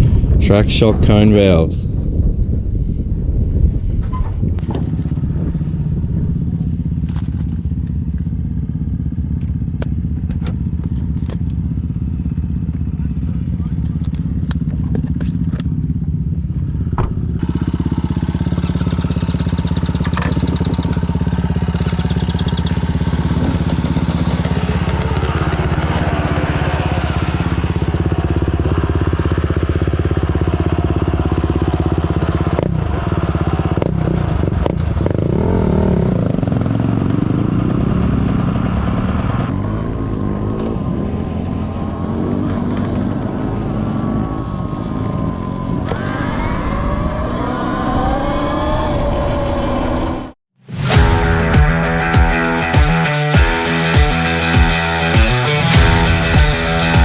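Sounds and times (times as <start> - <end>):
dirt bike engine running: 0.0 - 45.9, 50.8 - 57.0.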